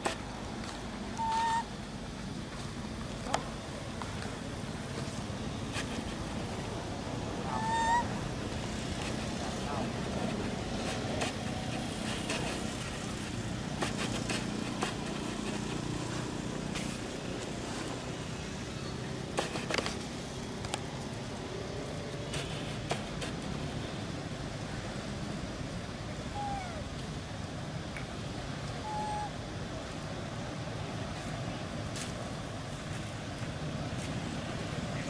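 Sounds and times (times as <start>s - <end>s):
outdoor background rumble: 0.0s - 35.0s.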